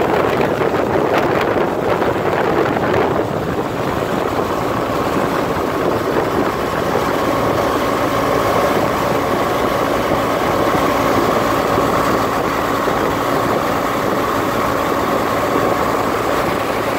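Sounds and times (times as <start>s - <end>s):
wind rushing: 0.0s - 16.9s.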